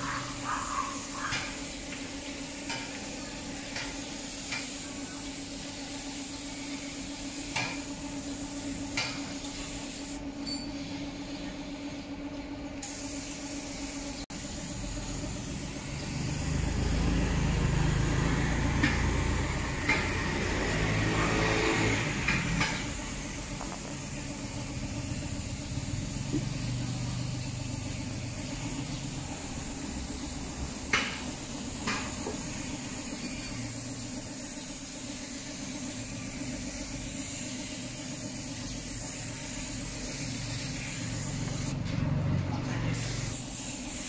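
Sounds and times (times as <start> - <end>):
spray gun hissing: 0.0 - 10.2, 12.8 - 41.8, 42.9 - 44.0.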